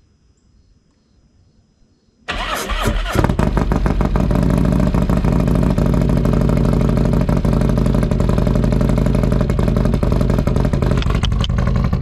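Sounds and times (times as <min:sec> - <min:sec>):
motorcycle engine running: 0:02.3 - 0:12.0.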